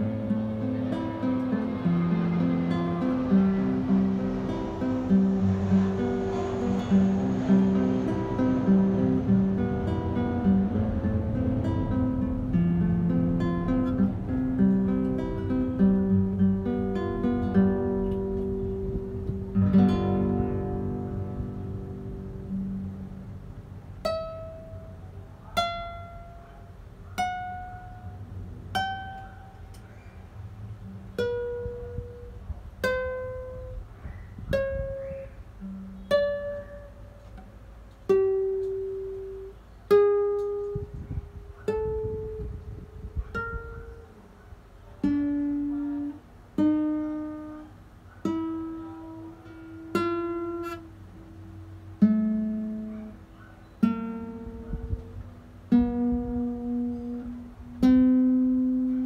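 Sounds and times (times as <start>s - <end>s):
classical guitar plucked notes: 0.0s - 59.0s.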